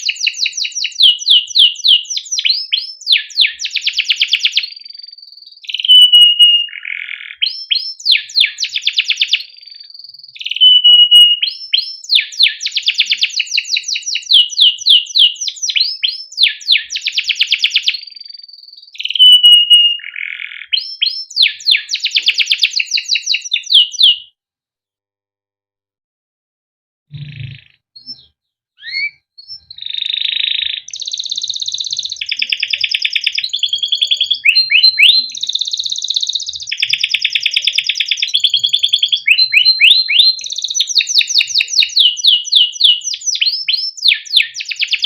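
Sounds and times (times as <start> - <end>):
canary singing chirps and trills: 0.0 - 24.3, 27.1 - 45.0.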